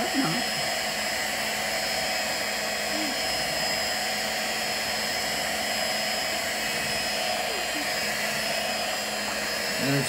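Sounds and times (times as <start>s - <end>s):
electric hand mixer whirring: 0.0s - 10.0s.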